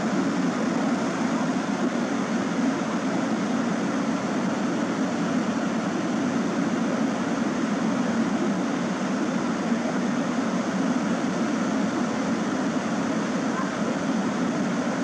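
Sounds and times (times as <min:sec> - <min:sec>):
water rushing over weir: 0:00.0 - 0:15.0.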